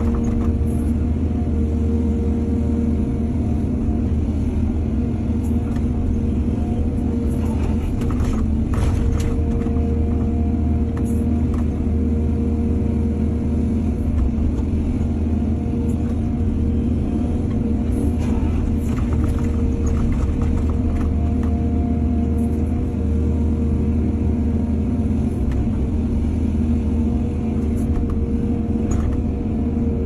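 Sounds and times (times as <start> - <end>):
excavator diesel engine rumble: 0.0 - 30.0.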